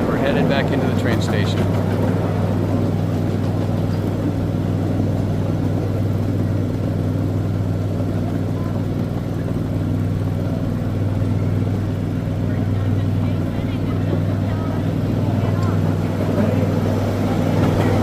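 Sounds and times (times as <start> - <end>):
miniature train engine running: 0.0 - 18.0.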